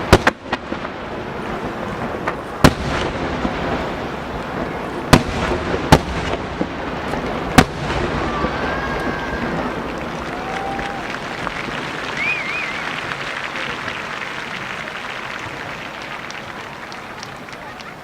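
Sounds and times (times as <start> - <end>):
firework shells booming: 0.0 - 16.6
crackle of small firework bursts: 0.0 - 18.0.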